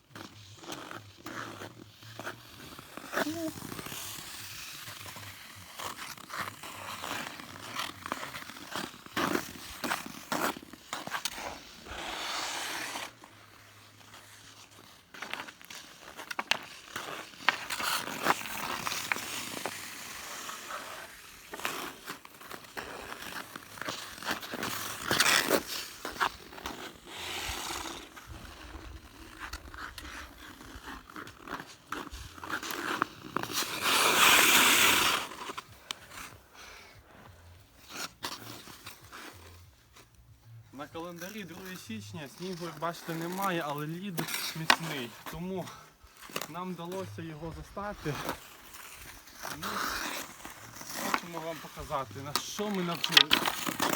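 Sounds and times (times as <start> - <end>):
ice skates scraping ice: 0.0 - 53.9.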